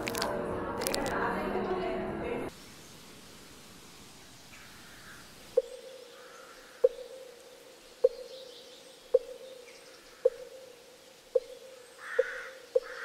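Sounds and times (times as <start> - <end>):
birds chirping faintly: 2.5 - 13.0.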